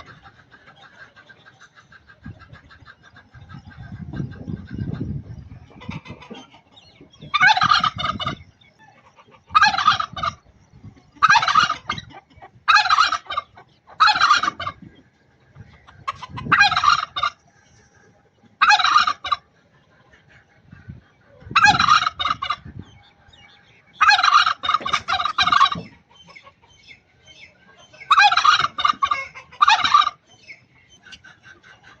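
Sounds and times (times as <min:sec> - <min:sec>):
turkey gobbling: 0:00.0 - 0:32.0.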